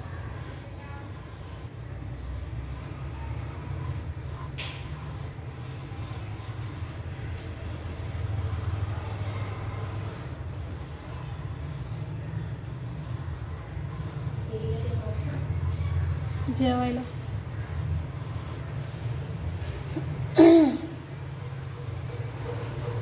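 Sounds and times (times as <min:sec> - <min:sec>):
pencil scratching on paper: 0:00.0 - 0:20.1.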